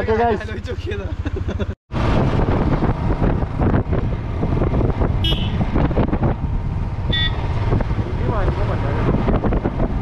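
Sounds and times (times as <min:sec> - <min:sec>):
motorcycle running: 0:00.0 - 0:10.0
wind rushing over microphone: 0:01.9 - 0:10.0.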